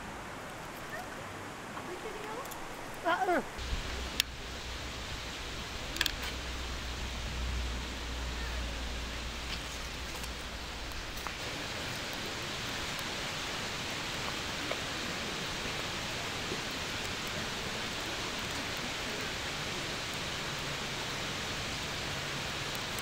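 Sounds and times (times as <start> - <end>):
campfire hissing and crackling: 0.0 - 23.0.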